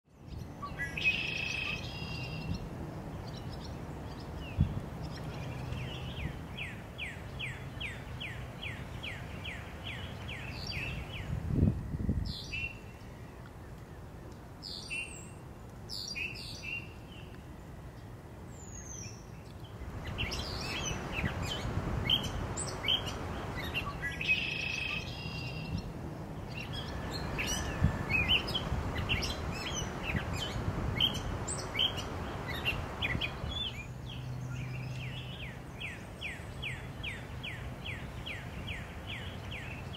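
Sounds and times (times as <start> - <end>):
small birds chirping: 0.1 - 39.9.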